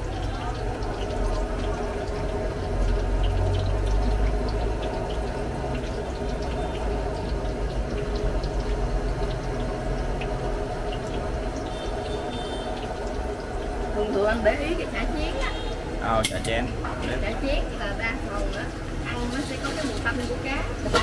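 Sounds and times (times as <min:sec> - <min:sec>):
oil sizzling in a wok: 0:00.0 - 0:21.0.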